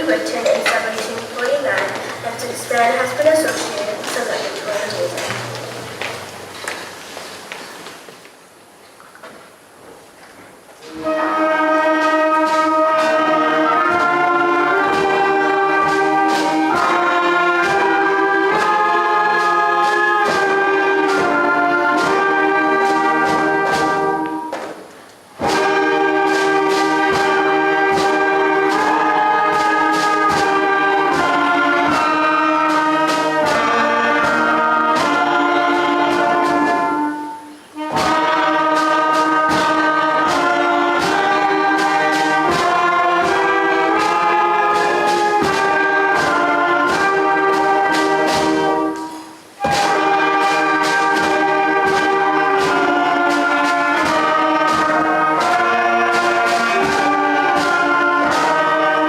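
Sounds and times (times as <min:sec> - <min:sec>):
school concert band playing: 0:00.0 - 0:08.8, 0:10.6 - 0:59.0.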